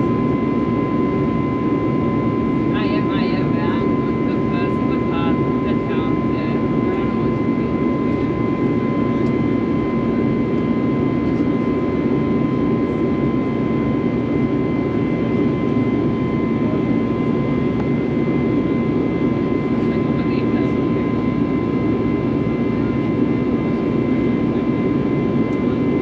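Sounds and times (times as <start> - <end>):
airplane cabin jet noise: 0.0 - 26.0
steady whine tone: 0.0 - 26.0.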